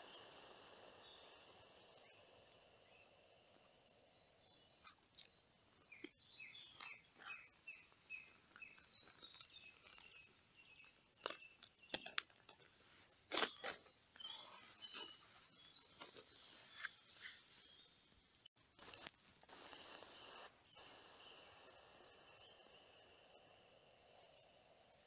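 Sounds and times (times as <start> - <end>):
faint bird song: 0.0 - 25.0.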